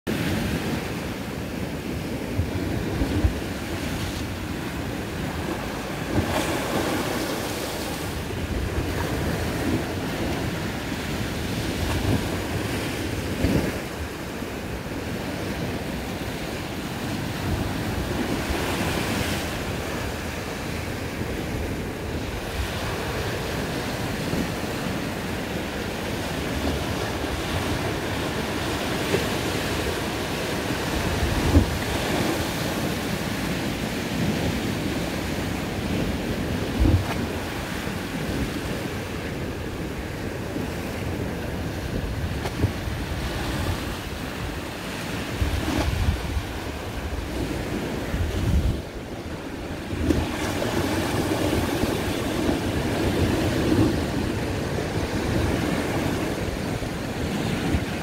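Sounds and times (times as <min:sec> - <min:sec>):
small waves washing on slipway: 0:00.1 - 0:58.0
wind buffeting microphone: 0:00.1 - 0:58.0.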